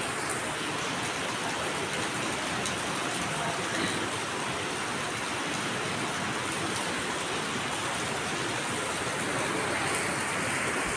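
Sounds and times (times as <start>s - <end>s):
rain on wet paving: 0.0s - 10.9s.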